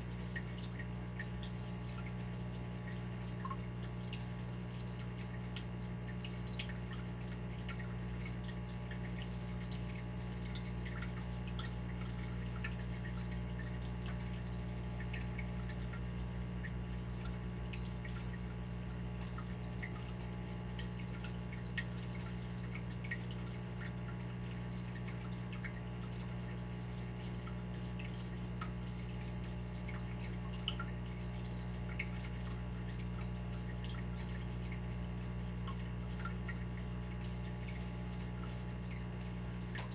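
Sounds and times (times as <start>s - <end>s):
low steady hum: 0.0s - 39.9s
water dripping: 0.0s - 39.9s.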